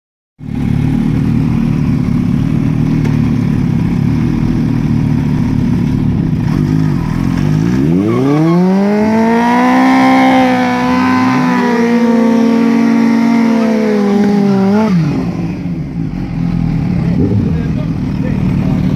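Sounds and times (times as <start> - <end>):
motocross bike engine revving: 0.4 - 18.9.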